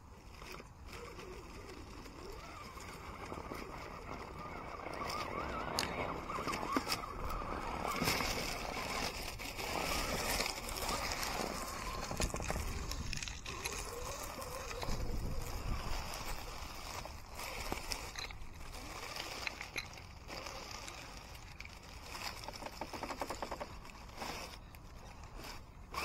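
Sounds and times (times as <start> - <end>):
tyres scraping on ground: 0.1 - 26.0
electric motor whining: 0.9 - 26.0.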